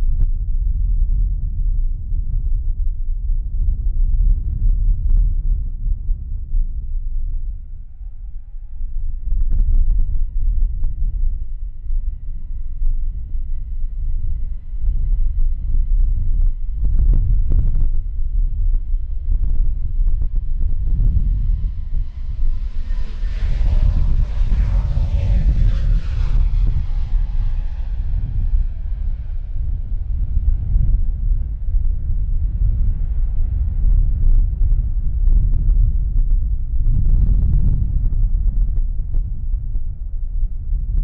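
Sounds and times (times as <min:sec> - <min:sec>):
wind buffeting microphone: 0:00.0 - 0:41.0
jet engine whine: 0:06.3 - 0:41.0.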